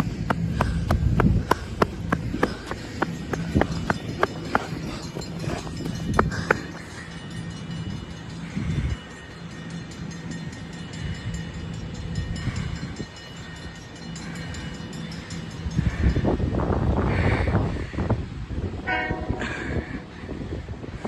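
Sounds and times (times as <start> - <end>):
train approaching with rumble: 0.0 - 17.1.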